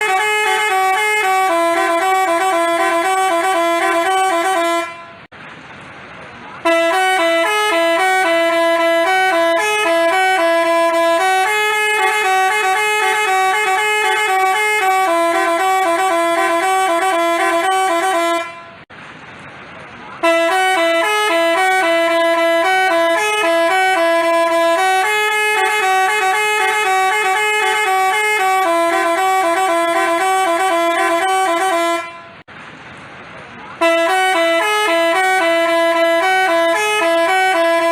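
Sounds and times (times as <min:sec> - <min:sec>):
multi-tone bus horn tune: 0:00.0 - 0:05.3, 0:06.6 - 0:18.9, 0:20.2 - 0:32.5, 0:33.8 - 0:37.9.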